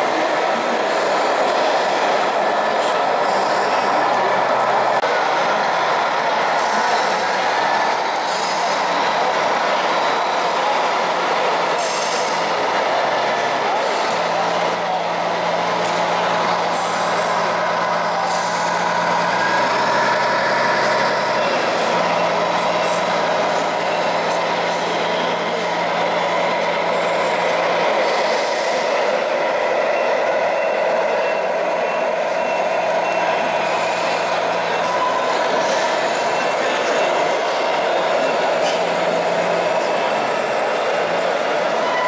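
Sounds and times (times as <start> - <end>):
busy hall background: 0.0 - 42.0.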